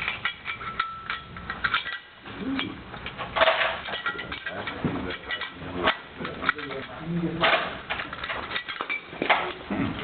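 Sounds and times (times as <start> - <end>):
metal clatter: 0.0 - 2.2, 3.0 - 9.6.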